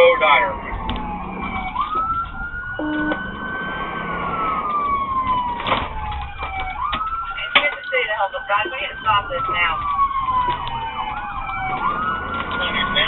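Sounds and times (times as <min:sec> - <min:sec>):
police siren wailing: 0:00.0 - 0:13.0
vehicle engine and road noise: 0:00.0 - 0:13.0.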